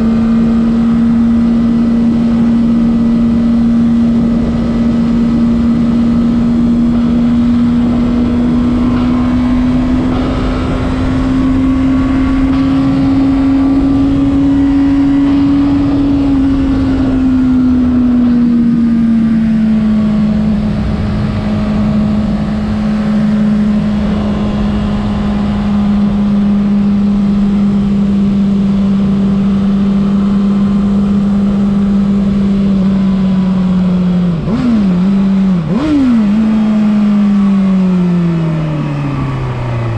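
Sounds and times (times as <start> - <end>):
wind rush: 0.0 - 34.6
motorcycle engine at high revs: 0.0 - 39.9.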